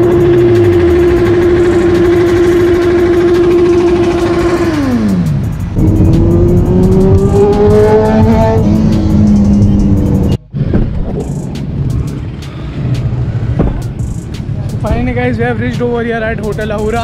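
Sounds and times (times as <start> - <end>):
motorcycle engine revving: 0.0 - 15.1
motorcycle accelerating: 0.0 - 15.2.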